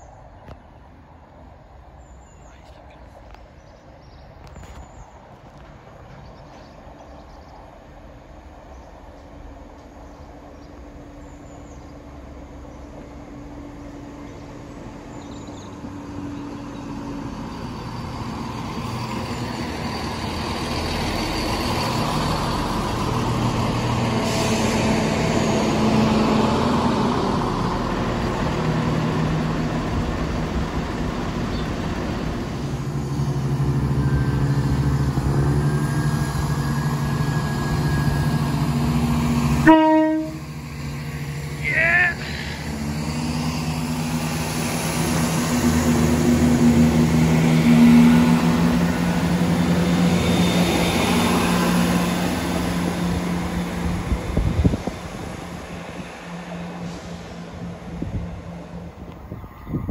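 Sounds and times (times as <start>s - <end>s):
train engine hum and rumble: 0.0s - 59.9s.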